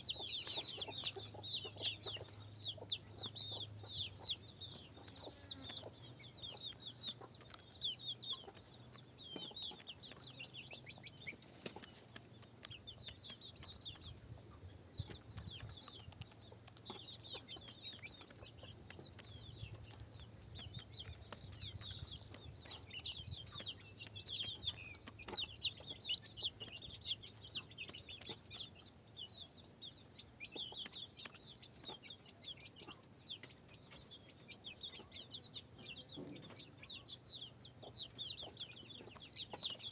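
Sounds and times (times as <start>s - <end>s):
chickens chirping: 0.0s - 39.9s.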